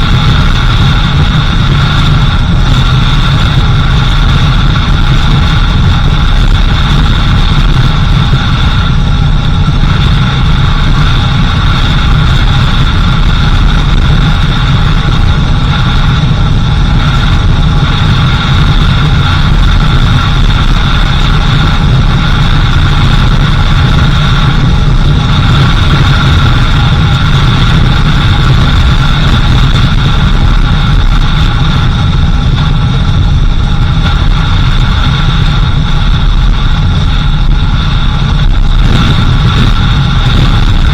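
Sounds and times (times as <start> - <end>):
vehicle engine: 0.0 - 40.9.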